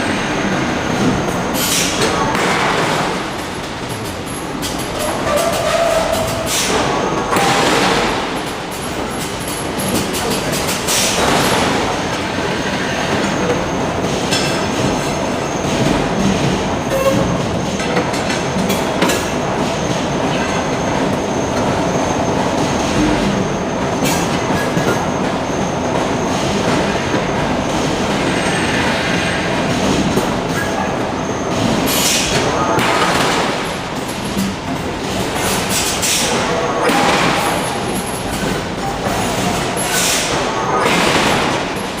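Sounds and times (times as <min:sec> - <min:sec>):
machinery clatter: 0:00.0 - 0:42.0.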